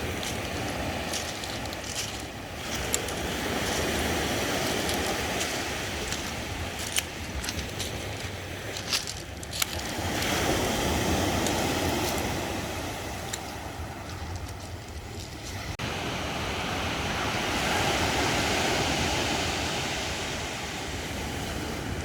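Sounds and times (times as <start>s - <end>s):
surf washing onto shore: 0.0s - 22.0s
wind buffeting microphone: 0.0s - 22.0s.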